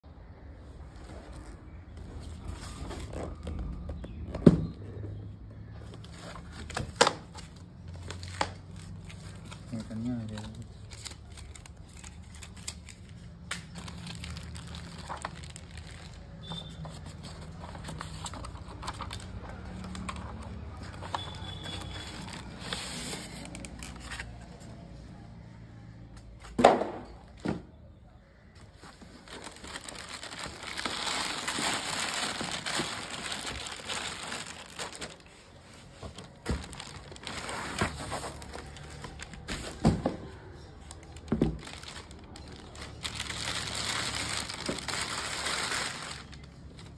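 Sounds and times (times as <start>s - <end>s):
plastic and paper crinkling: 1.0s - 4.4s, 5.6s - 24.8s, 28.3s - 46.9s.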